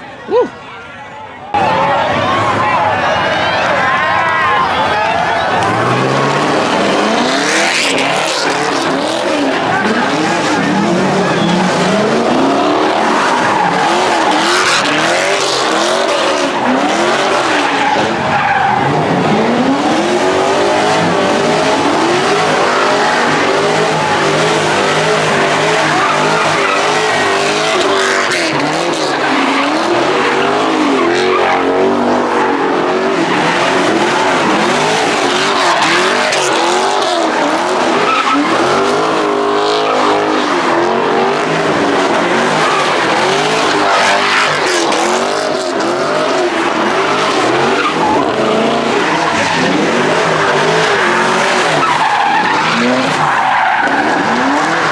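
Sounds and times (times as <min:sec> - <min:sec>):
car tyres squealing: 0:00.0 - 0:54.9
car engine revving hard: 0:05.5 - 0:54.9.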